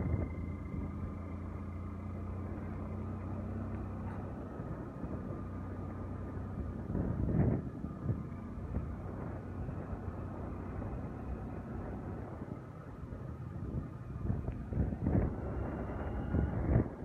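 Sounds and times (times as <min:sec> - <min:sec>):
road noise: 0:00.0 - 0:17.0
vehicle engine droning: 0:00.0 - 0:17.0.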